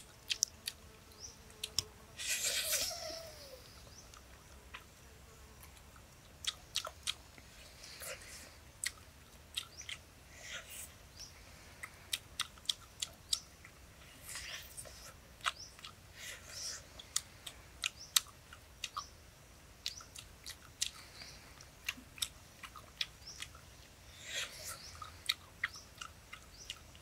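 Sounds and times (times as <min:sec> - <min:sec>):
man chewing with mouth clicks: 0:00.0 - 0:00.9, 0:01.5 - 0:02.9, 0:03.8 - 0:05.0, 0:05.6 - 0:11.0, 0:11.7 - 0:27.0.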